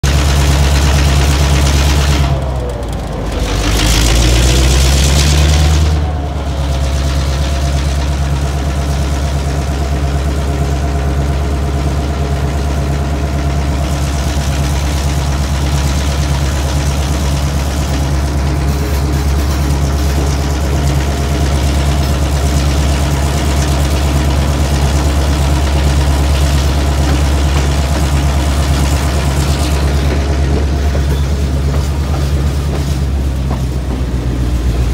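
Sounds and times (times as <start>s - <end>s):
diesel locomotive engine running: 0.0s - 34.9s.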